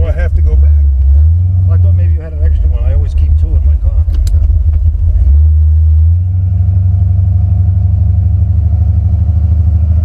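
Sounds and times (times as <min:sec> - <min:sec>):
engine exhaust drone: 0:00.0 - 0:10.0.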